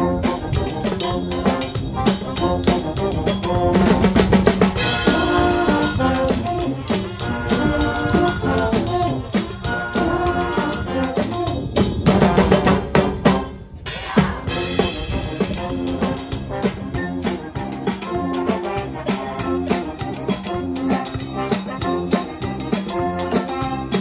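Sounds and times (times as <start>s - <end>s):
brass band playing: 0.0s - 24.0s
drum kit beat: 0.0s - 24.0s.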